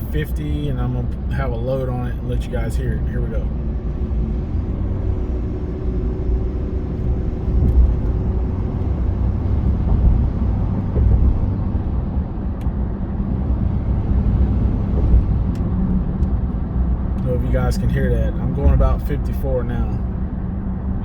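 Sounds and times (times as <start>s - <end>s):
diesel engine rumbling under load: 0.0s - 21.0s
road noise: 0.0s - 21.0s.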